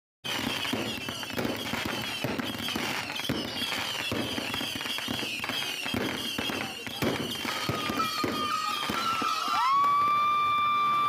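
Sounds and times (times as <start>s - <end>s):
fireworks popping and crackling: 0.2s - 11.0s.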